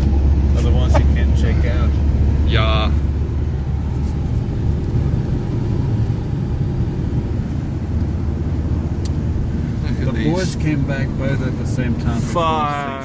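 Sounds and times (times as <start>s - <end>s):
car engine rumble and road noise: 0.0s - 13.0s.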